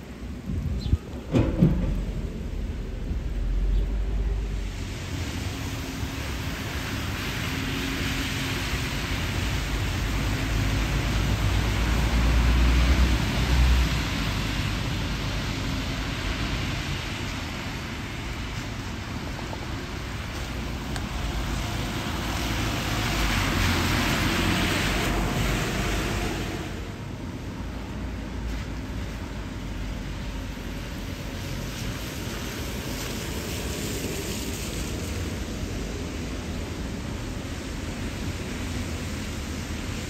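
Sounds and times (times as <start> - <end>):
bus engine rumble: 0.0 - 40.0
rain: 0.0 - 40.0
tyres hissing on wet road: 0.0 - 40.0.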